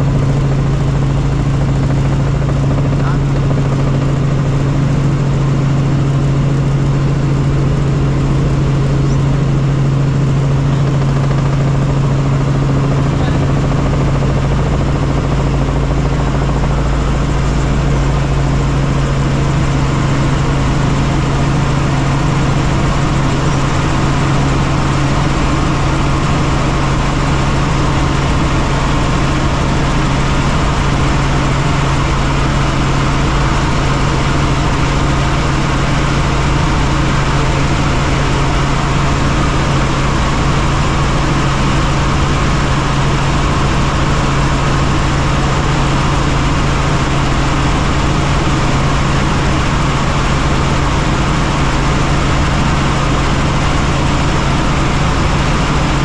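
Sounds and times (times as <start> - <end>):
constant low hum: 0.0 - 56.0
helicopter rotors droning: 0.0 - 56.0.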